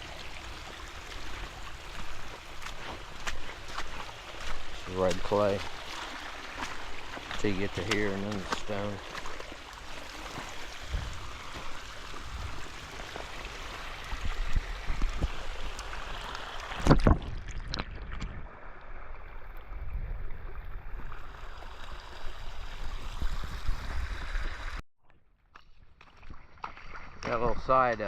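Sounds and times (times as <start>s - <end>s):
creek water rushing and splashing: 0.0s - 24.8s.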